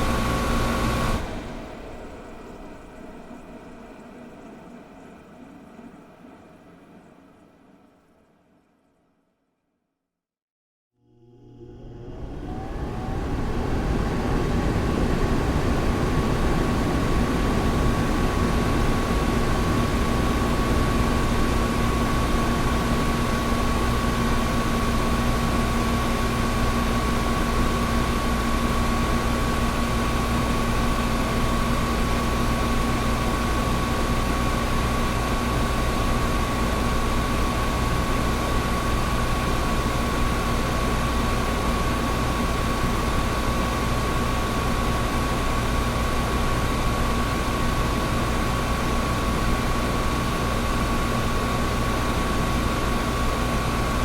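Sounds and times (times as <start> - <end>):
air conditioner running: 0.0 - 6.4, 11.1 - 54.0.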